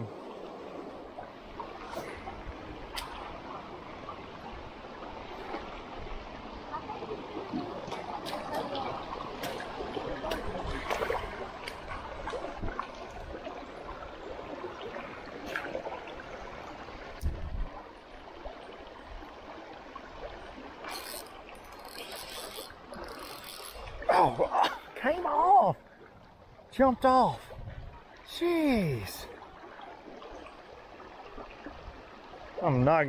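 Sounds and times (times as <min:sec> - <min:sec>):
creek water trickling over rocks: 0:00.0 - 0:33.0.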